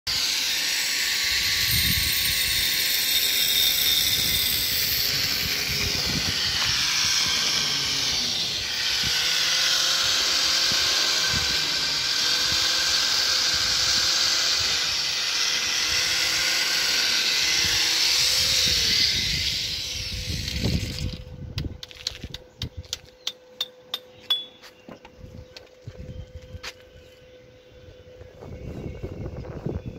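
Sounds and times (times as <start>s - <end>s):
faint whining tone: 0.9s - 29.9s.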